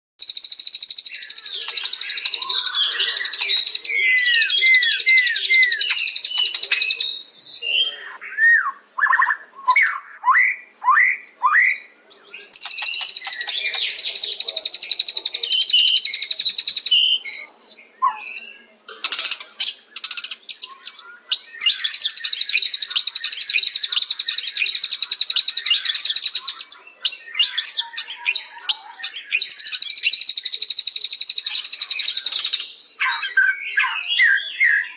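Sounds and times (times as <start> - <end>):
bird singing: 0.2 - 34.9.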